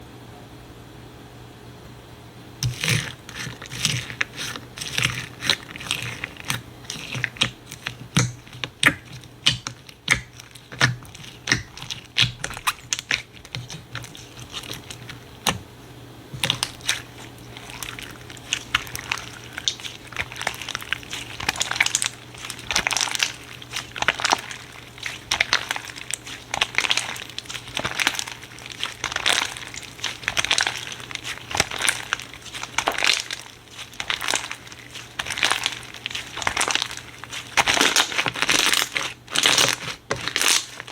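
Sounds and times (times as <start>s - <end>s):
slime crackling and popping: 2.6s - 40.9s.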